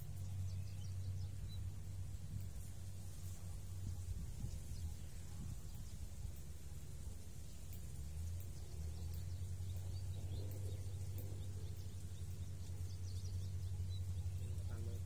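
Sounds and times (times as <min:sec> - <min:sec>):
faint bird chirps: 0:00.0 - 0:15.0
steady low rumble: 0:00.0 - 0:15.0.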